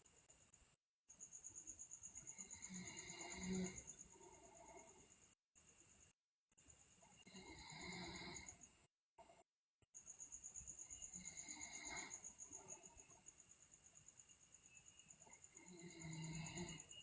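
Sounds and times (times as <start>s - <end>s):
high pulsing cricket-like trill: 0.0s - 8.9s, 10.0s - 17.0s.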